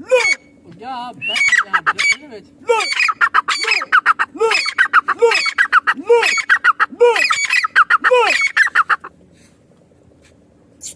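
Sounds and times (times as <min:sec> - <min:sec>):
francolin calling: 0:00.0 - 0:09.1.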